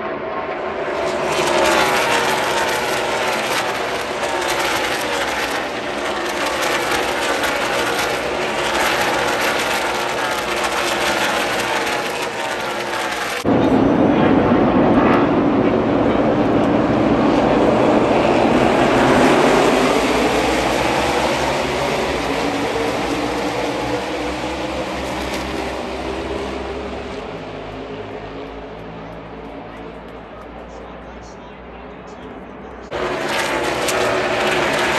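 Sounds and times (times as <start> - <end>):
race car engines passing: 0.0 - 34.9.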